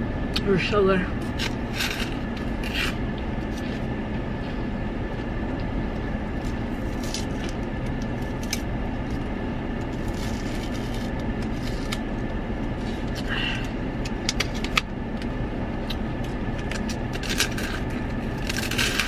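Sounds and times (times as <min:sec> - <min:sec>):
car engine idling: 0:00.0 - 0:19.0
faint steady whine: 0:00.0 - 0:19.0.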